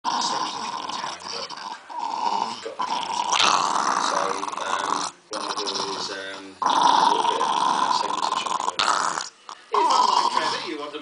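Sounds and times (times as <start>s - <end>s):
dogs growling: 0.1s - 10.8s.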